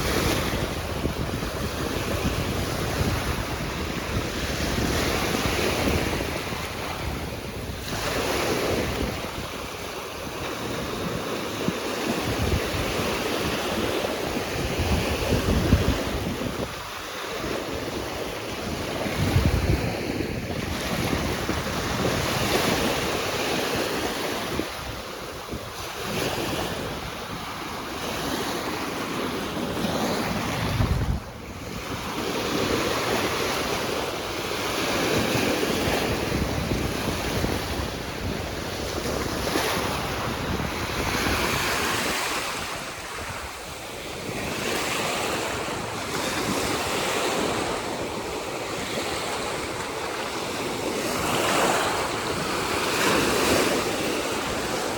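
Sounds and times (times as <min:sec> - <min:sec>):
waves breaking: 0:00.0 - 0:54.9
wind buffeting microphone: 0:00.0 - 0:54.9.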